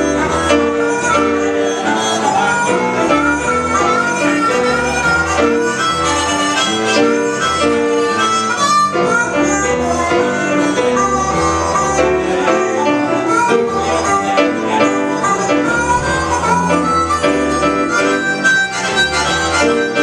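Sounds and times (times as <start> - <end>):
blues band playing: 0.0 - 20.0
harmonica lead: 0.0 - 20.0.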